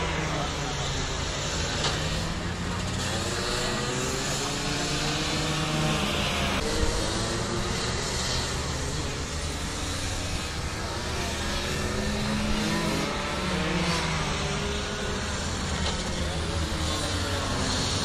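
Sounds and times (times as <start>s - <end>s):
kart engines racing: 0.0s - 18.0s.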